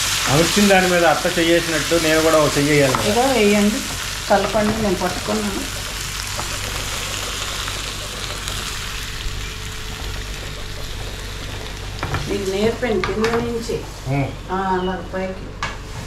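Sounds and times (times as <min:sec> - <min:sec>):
prawns sizzling in hot oil: 0:00.0 - 0:13.0.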